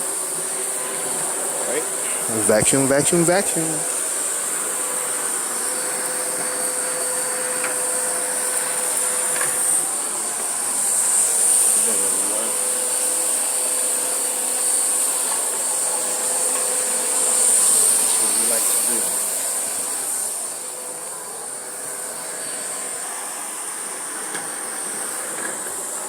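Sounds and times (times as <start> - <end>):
vacuum cleaner on carpet: 0.0 - 26.0.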